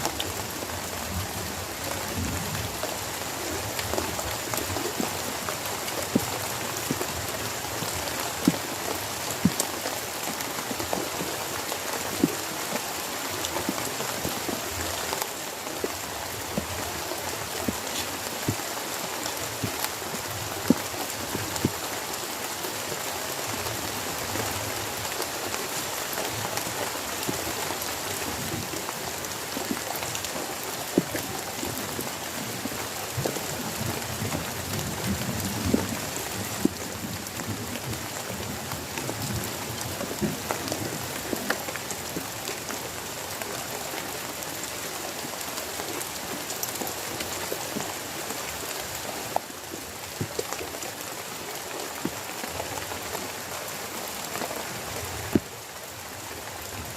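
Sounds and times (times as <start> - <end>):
heavy rain falling: 0.0 - 56.9
raindrops tapping on a surface: 0.0 - 56.9.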